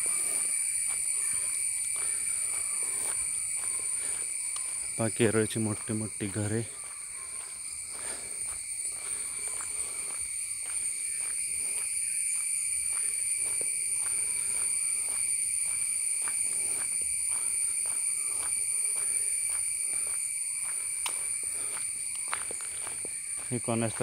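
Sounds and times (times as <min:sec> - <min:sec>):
faint footsteps: 0:00.0 - 0:24.0
insects droning: 0:00.0 - 0:24.0.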